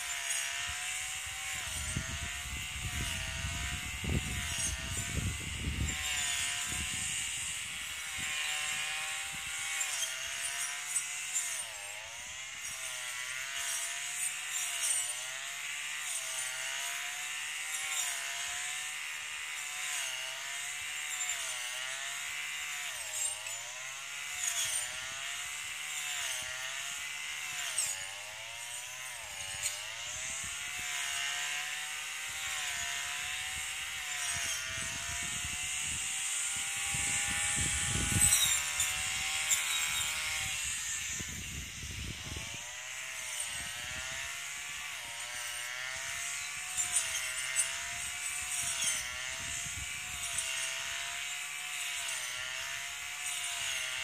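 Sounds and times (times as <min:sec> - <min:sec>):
brush cutter engine cutting grass: 0:00.0 - 0:54.0.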